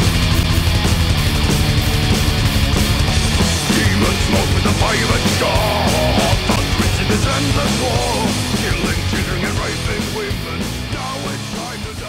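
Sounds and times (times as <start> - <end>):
heavy metal music: 0.0 - 12.0
wavering lead guitar line: 0.0 - 12.0.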